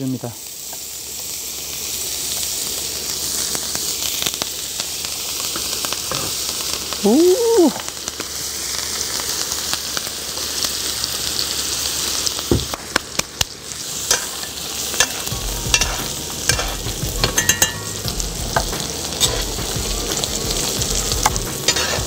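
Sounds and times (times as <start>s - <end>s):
butter crackles from basting: 0.0s - 22.0s
steak sizzling in butter: 0.0s - 22.0s.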